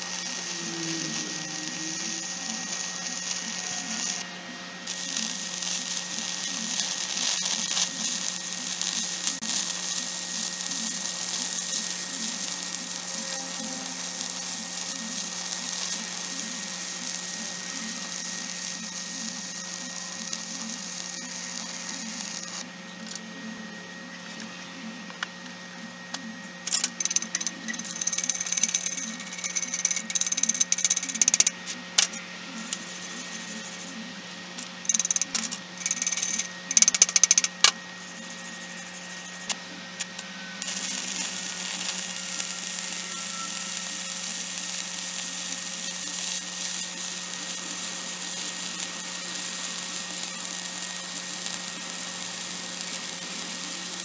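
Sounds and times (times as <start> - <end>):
welding arc crackling and hissing: 0.0 - 23.4, 24.2 - 54.0.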